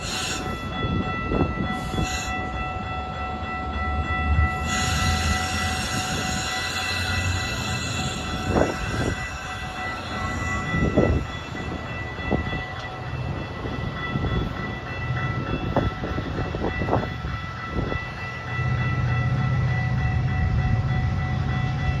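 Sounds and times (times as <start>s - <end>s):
diesel locomotive drone: 0.0s - 22.0s
train passing: 0.0s - 22.0s.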